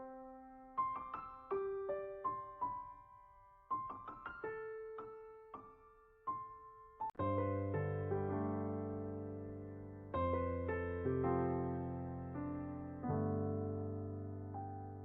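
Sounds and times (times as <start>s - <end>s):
slow soft piano music: 0.0s - 15.0s.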